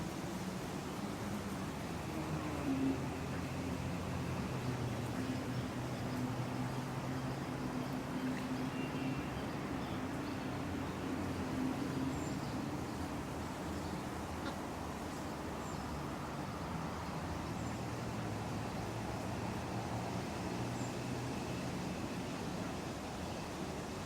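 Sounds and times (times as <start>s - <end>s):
distant traffic noise: 0.0s - 24.0s.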